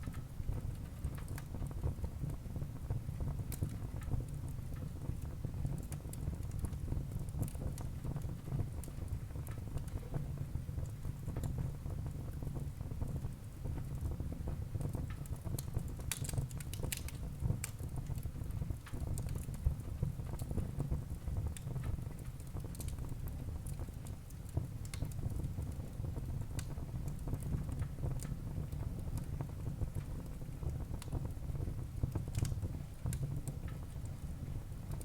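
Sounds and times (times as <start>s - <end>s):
burning logs crackling and popping: 0.0s - 35.0s
low rumble of flames: 0.0s - 35.0s.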